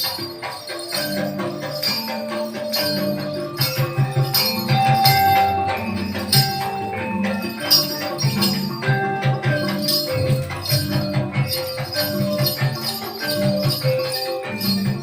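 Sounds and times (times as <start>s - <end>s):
gamelan music: 0.0s - 15.0s
jingling bells: 0.0s - 15.0s.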